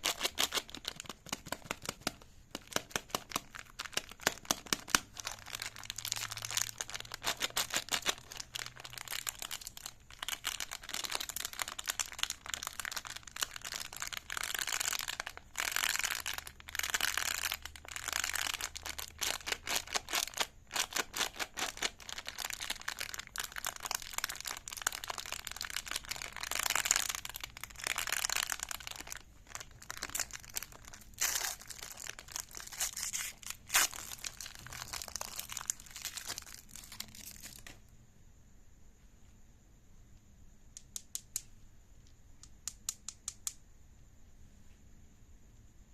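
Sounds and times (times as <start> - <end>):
plastic wrapper crinkling: 0.0 - 37.8.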